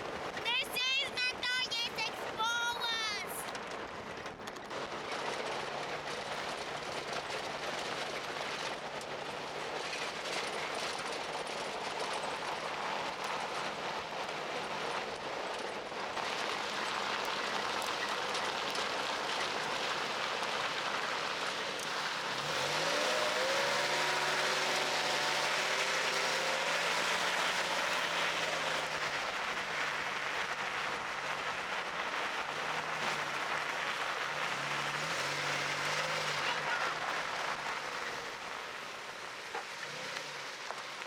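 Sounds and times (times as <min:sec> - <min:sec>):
engine hum: 0:00.0 - 0:41.0
road and wind noise: 0:00.0 - 0:41.0.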